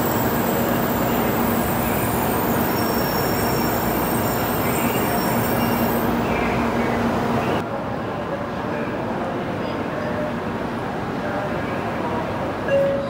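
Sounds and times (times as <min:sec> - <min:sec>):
standing train hum and hiss: 0:00.0 - 0:13.0.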